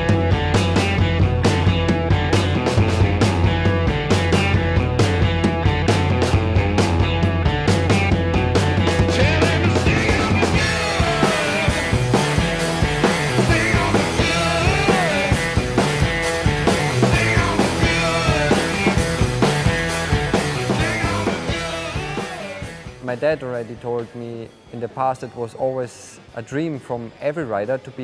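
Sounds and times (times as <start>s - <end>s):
rock music: 0.0s - 24.8s.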